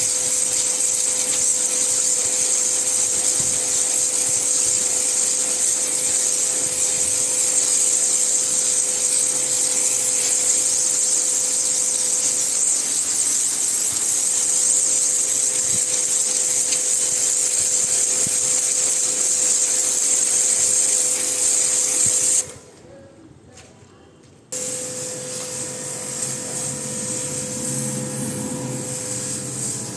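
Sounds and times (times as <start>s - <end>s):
pressure washer spraying: 0.0s - 22.6s, 24.6s - 29.9s.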